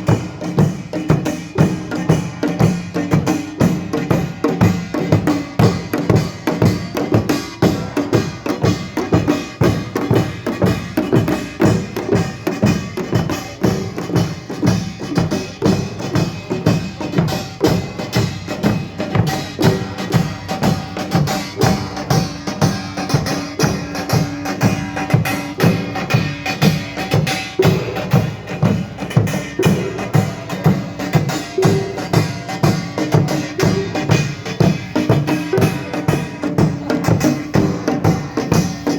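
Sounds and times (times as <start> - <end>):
drums: 0.0 - 38.9.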